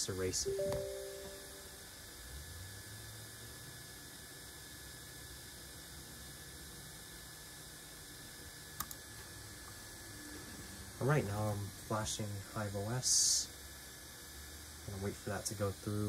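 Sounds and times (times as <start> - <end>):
low electrical hum with hiss: 0.0 - 16.0.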